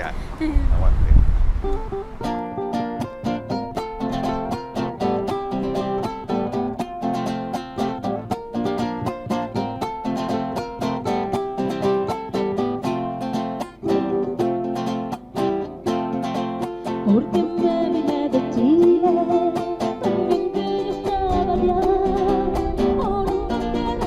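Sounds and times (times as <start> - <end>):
acoustic guitar strumming: 1.6 - 24.0.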